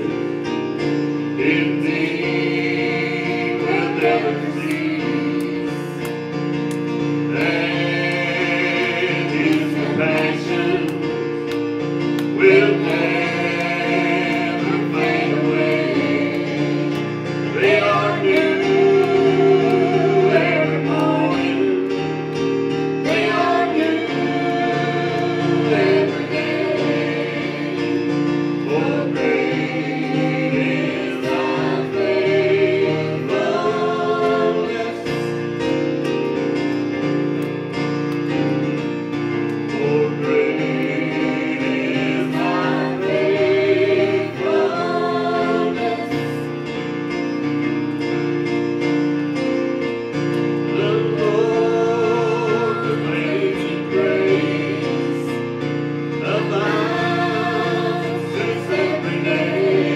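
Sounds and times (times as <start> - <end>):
gospel vocal group singing: 0.0 - 37.2, 38.4 - 47.9, 50.1 - 59.9
instrumental backing: 0.0 - 59.9.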